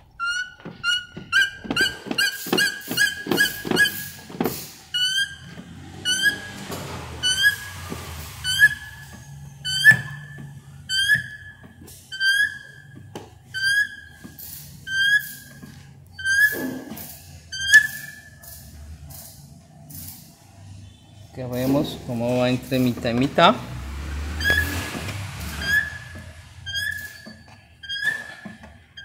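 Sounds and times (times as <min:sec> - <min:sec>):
pump handle squeaking: 0:00.0 - 0:20.2, 0:21.4 - 0:23.6, 0:24.2 - 0:29.0.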